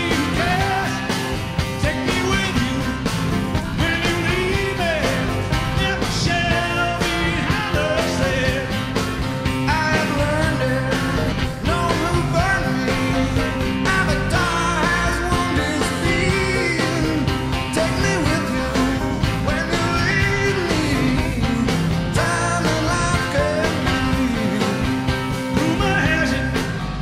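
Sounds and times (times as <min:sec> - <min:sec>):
rock music with singing: 0:00.0 - 0:27.0.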